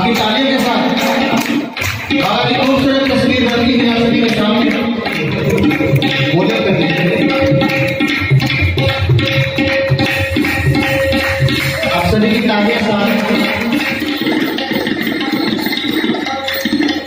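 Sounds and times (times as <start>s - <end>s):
tabla playing quick rhythm: 0.0s - 17.0s.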